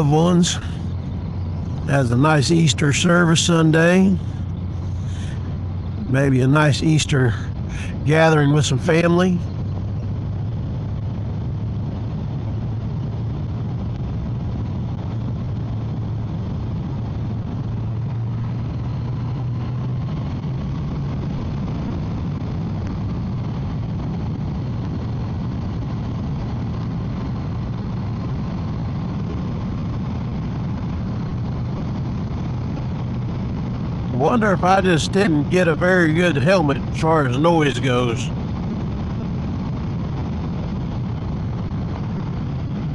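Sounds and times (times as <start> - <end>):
motorcycle engine drone: 0.0 - 42.9
wind rush: 0.0 - 42.9.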